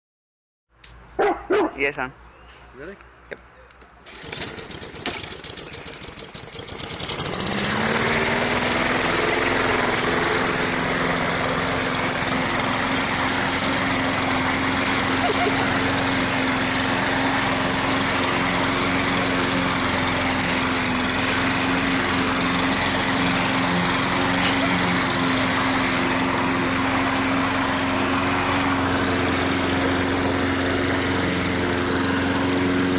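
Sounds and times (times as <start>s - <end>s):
lawn mower engine running: 3.8s - 32.9s.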